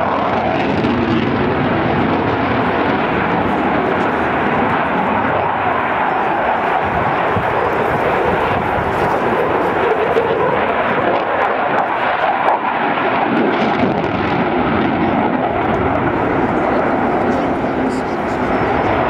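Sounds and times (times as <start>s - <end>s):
jet engines in afterburner: 0.0s - 19.0s.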